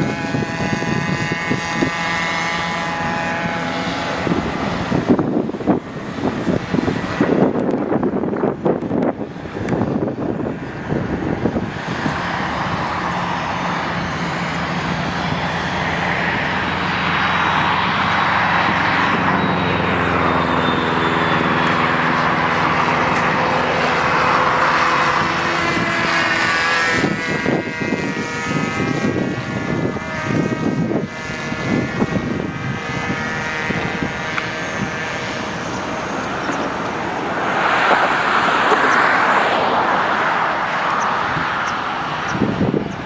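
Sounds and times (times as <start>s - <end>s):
model plane engine running: 0.0s - 43.0s
wind buffeting microphone: 0.0s - 43.0s.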